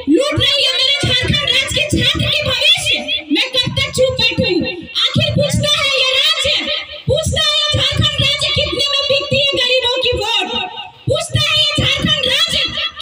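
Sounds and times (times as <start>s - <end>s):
woman speaking through loudspeaker: 0.0s - 13.0s.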